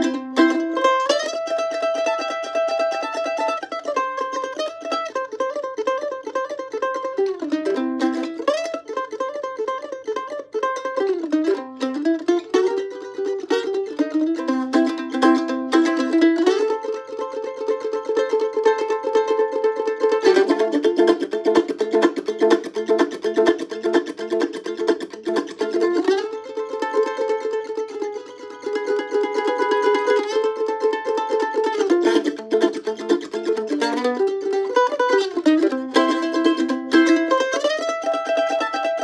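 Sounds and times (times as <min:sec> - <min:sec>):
mandolin picking blues melody: 0:00.0 - 0:39.0.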